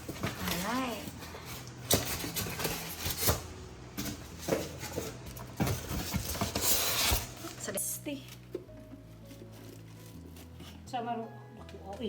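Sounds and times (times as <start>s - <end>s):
packaging rustling: 0.0s - 10.9s.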